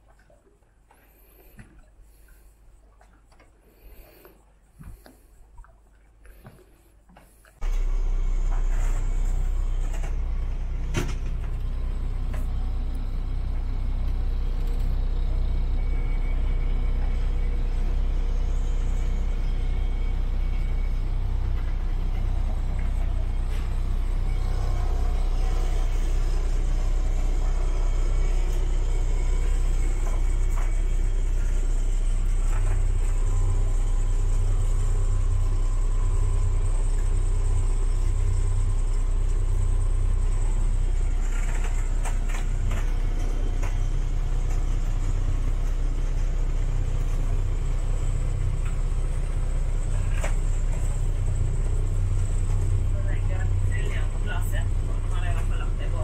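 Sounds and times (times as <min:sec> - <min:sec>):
boat diesel engine rumbling: 0:00.0 - 0:56.0.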